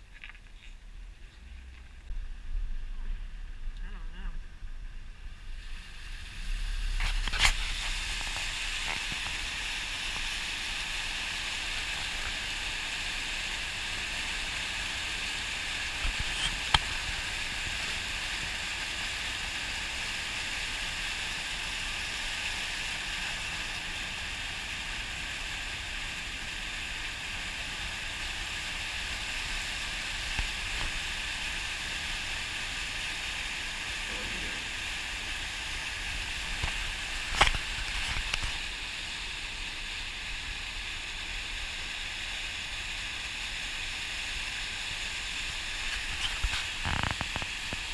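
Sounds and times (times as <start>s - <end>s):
low engine rumble: 0.0s - 20.3s, 23.8s - 42.9s
floodwater rushing and splashing: 5.6s - 47.9s.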